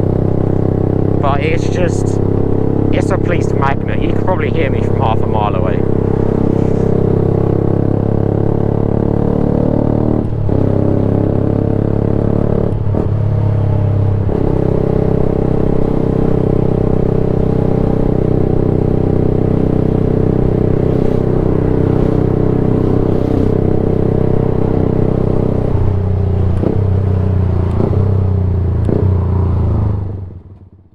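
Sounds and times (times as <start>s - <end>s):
loud motorcycle engine: 0.0s - 30.9s.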